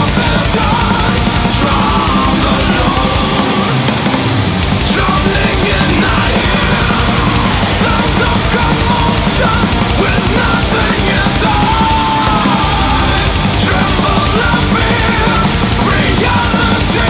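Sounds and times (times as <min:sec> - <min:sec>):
distorted guitars: 0:00.0 - 0:17.0
fast drumming: 0:00.0 - 0:17.0
lead guitar melody: 0:01.0 - 0:16.2.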